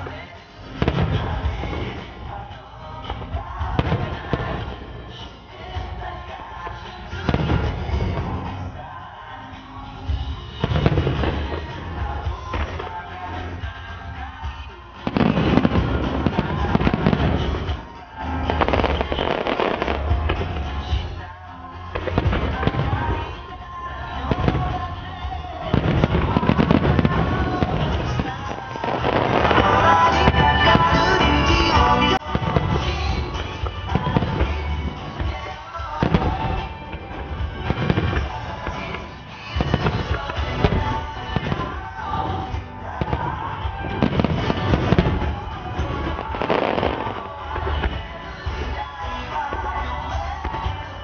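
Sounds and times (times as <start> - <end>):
fireworks bursting and crackling: 0.0 - 51.0
music playing: 0.0 - 51.0.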